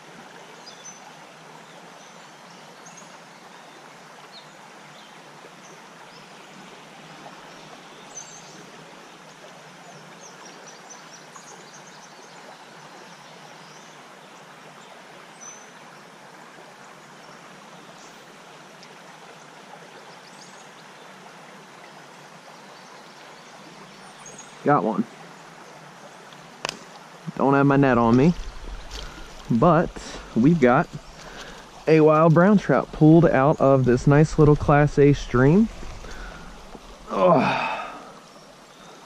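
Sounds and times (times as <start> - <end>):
creek running over rocks: 0.0 - 39.0.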